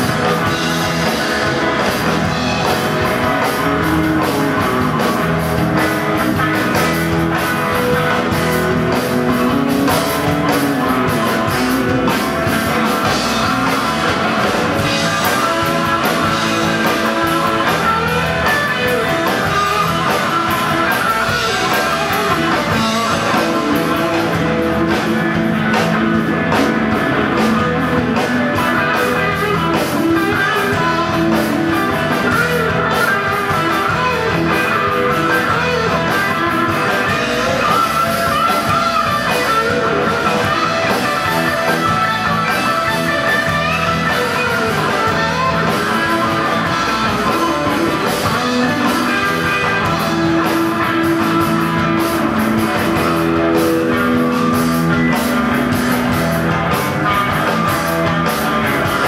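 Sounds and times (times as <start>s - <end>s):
lead guitar line: 0.0s - 59.0s
rock band playing: 0.0s - 59.0s.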